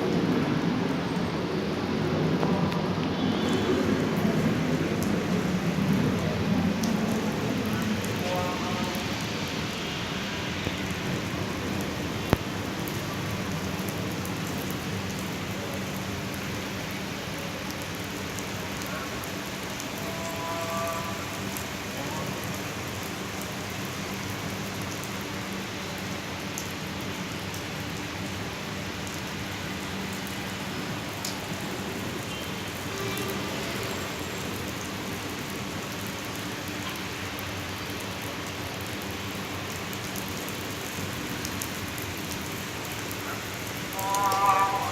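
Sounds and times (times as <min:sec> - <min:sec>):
rain pattering on surfaces: 0:00.0 - 0:44.9.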